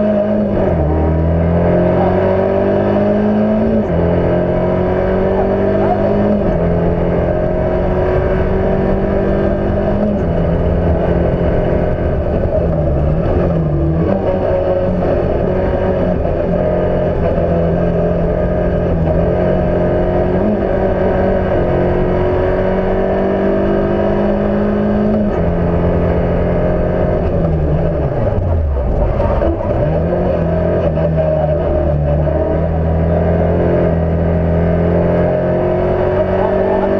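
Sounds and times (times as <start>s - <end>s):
car engine revving through gears: 0.0s - 36.9s.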